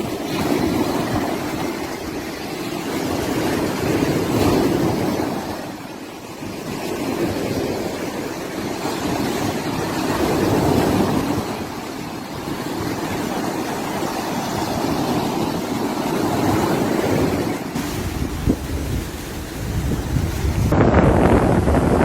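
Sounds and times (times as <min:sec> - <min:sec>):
sea surf washing onto beach: 0:00.0 - 0:22.0.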